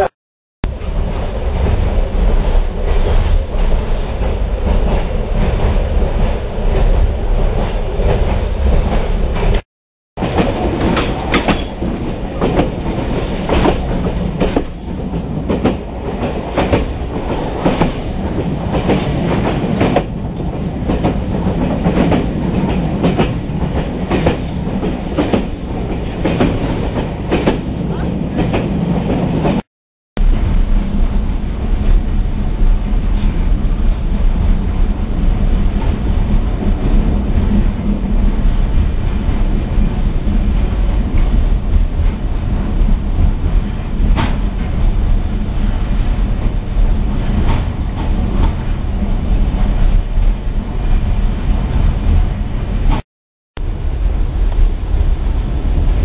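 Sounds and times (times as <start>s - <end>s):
train wheels rumbling on rail: 0.7s - 9.6s, 10.2s - 29.6s, 30.2s - 53.0s, 53.6s - 56.0s.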